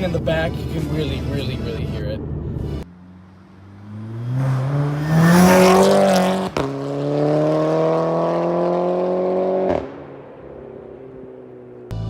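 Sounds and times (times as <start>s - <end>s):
car engine accelerating hard: 0.0s - 11.9s.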